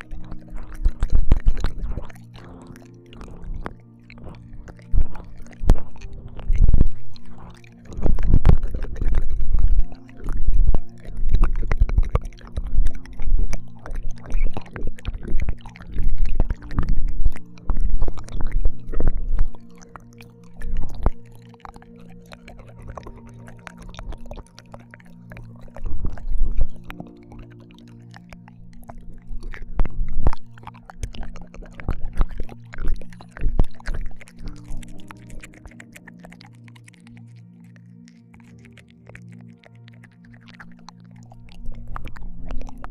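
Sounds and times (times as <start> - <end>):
low background drone: 0.0 - 42.9
soft humming tone: 0.0 - 42.9
wet mouth smacks and clicks: 0.0 - 42.9.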